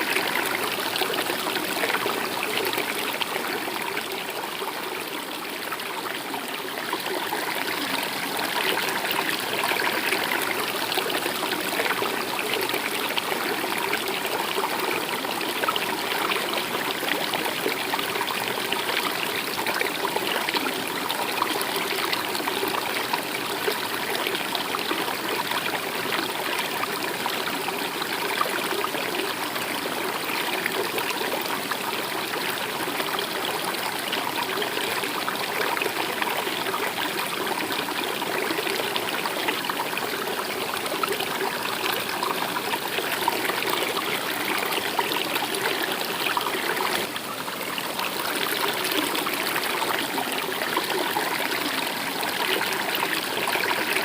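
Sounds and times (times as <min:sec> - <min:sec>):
stream water over rocks: 0:00.0 - 0:54.0.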